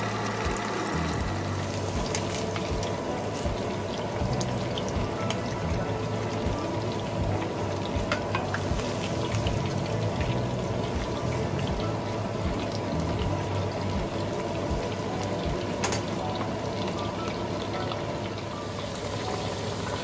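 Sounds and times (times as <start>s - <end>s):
chicken deep-frying in oil: 0.0s - 20.0s
oil crackling and popping: 0.0s - 20.0s.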